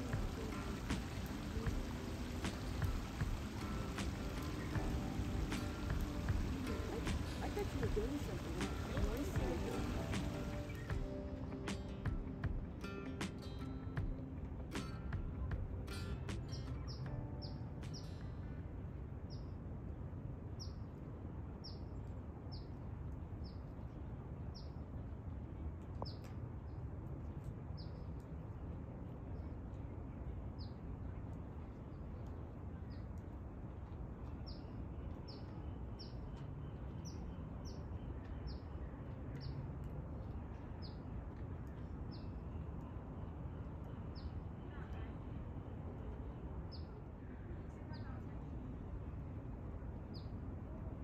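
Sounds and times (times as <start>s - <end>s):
low outdoor rumble: 0.0s - 51.0s.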